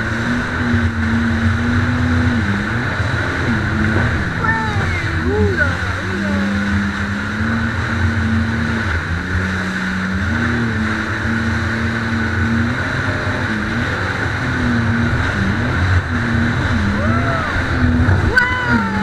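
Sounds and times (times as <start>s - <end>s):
jet ski engine: 0.0s - 19.0s
rushing water noise: 0.0s - 19.0s.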